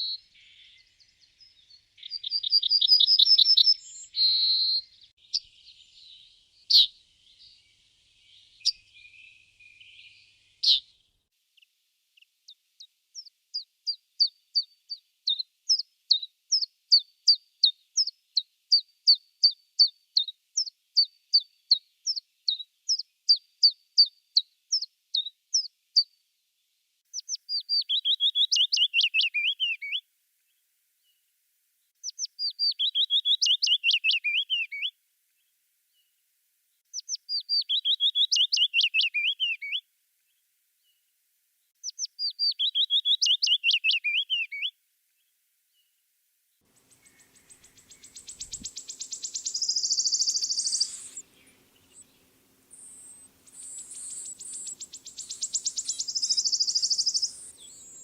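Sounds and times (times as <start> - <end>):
songbirds singing: 0.0 - 11.3, 12.2 - 26.1, 27.1 - 31.2, 32.0 - 36.1, 36.8 - 39.8, 41.6 - 46.0, 46.8 - 58.0.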